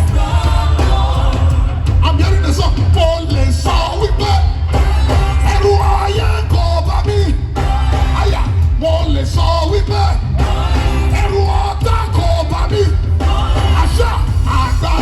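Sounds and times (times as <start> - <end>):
heavy bass: 0.0 - 15.0
people singing over a band: 0.0 - 15.0.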